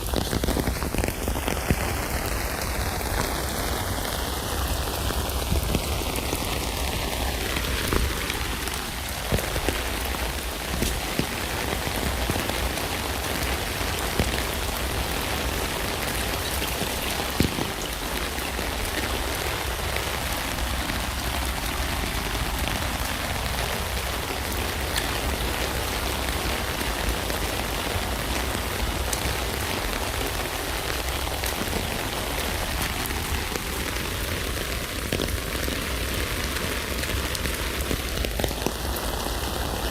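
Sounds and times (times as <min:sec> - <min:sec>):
rain pattering on a tent: 0:00.0 - 0:39.9.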